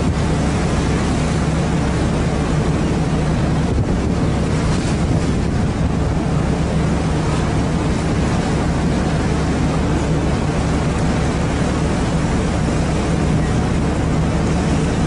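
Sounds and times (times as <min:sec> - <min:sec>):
boat engine humming: 0:00.0 - 0:15.0
wind on the microphone: 0:00.0 - 0:15.0.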